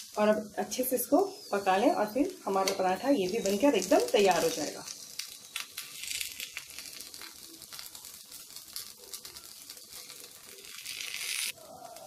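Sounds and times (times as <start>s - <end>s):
flatbread sizzling in ghee: 0.0s - 12.0s.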